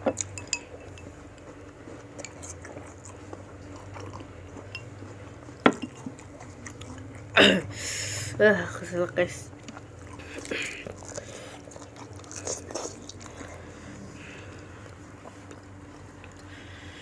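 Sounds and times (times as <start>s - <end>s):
chewing fruit: 0.0s - 7.7s, 9.0s - 17.0s.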